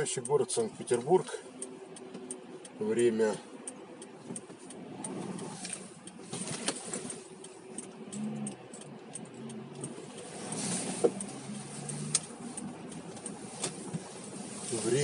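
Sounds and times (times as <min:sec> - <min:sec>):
light ticking clicks: 0:00.0 - 0:15.0.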